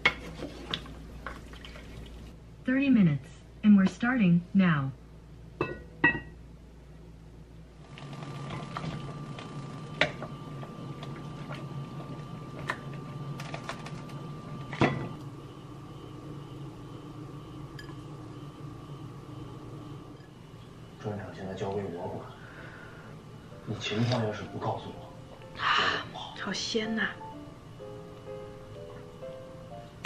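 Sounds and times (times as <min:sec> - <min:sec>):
steady kitchen hum: 0:00.0 - 0:30.0.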